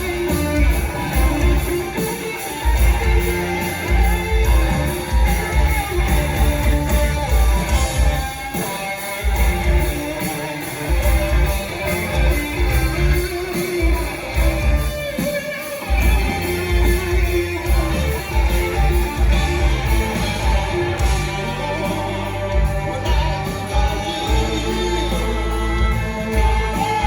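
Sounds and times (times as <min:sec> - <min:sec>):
electric guitar: 0:00.0 - 0:27.0
rock band playing: 0:00.0 - 0:27.0.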